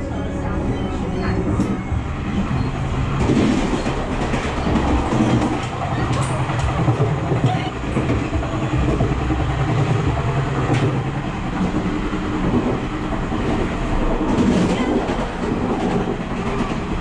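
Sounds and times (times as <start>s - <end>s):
rail clicks: 0.0s - 17.0s
train rumbling along track: 0.0s - 17.0s.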